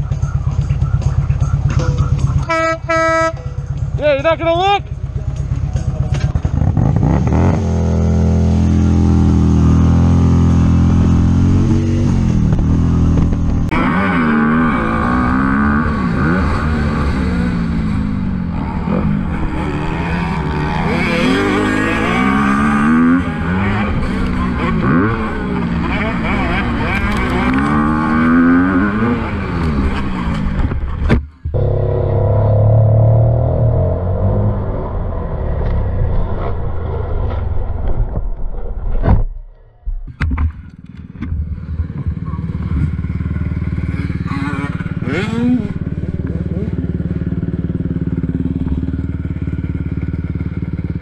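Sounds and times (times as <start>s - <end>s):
motorcycle engine revving: 4.8s - 38.2s, 40.7s - 51.0s.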